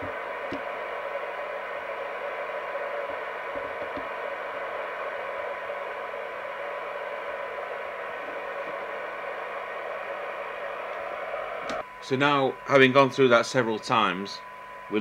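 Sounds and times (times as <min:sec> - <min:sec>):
radio receiver hiss: 0:00.0 - 0:15.0.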